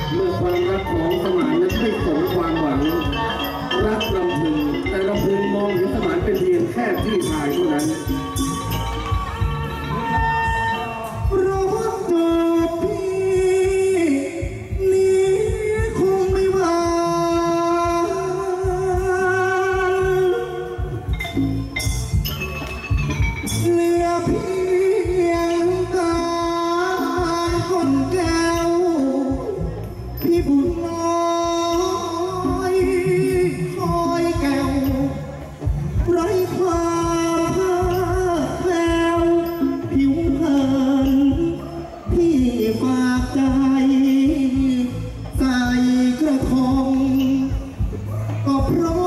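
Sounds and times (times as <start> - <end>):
person singing into microphone: 0.0 - 22.3, 23.4 - 49.0
instrumental accompaniment with beat: 0.0 - 49.0.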